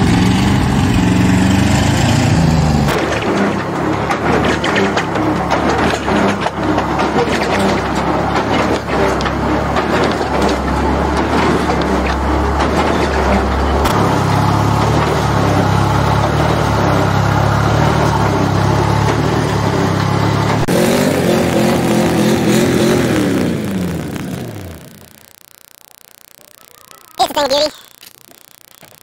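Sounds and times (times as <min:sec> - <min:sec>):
engine running and revving: 0:00.0 - 0:25.2.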